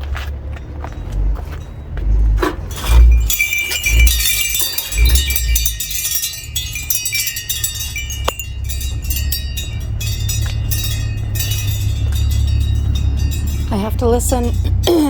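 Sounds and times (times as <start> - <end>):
steady low rumble: 0.0 - 15.0
wind chimes tinkling: 0.5 - 15.0.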